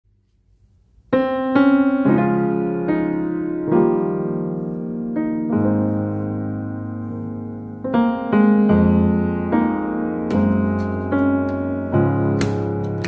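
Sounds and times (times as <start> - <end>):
gentle piano music: 1.1 - 13.0.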